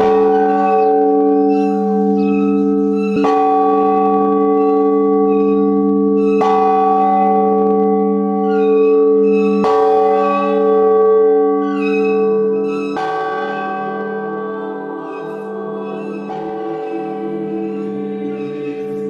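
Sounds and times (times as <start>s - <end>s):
large church bell ringing: 0.0s - 19.0s.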